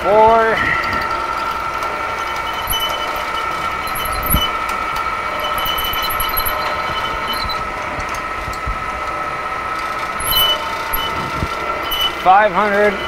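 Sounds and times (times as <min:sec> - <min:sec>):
milling machine drilling steel: 0:00.0 - 0:13.0
metal chips ticking: 0:01.0 - 0:08.6, 0:09.7 - 0:13.0.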